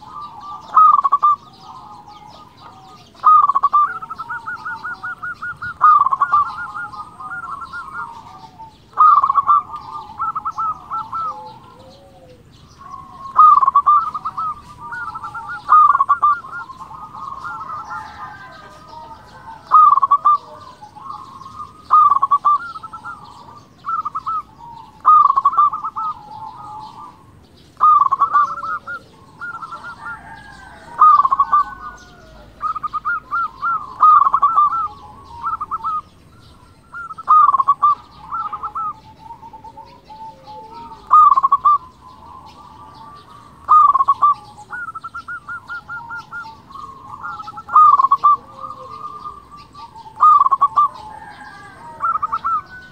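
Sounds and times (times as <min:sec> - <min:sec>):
dove cooing song: 0:00.0 - 0:52.9.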